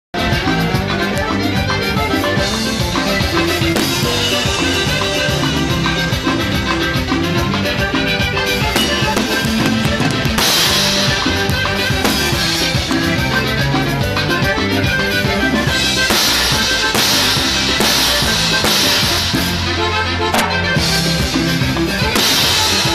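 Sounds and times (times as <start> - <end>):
drum kit and cymbals: 0.2 - 22.9
live band playing cumbia: 0.2 - 22.9.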